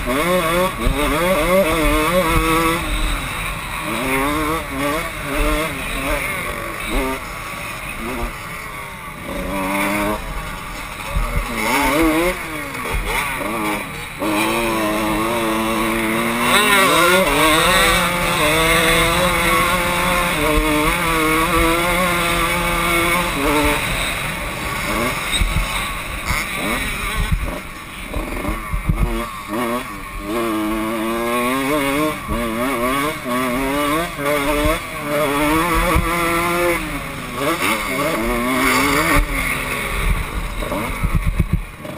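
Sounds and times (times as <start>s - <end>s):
motocross engine revving: 0.0s - 41.9s.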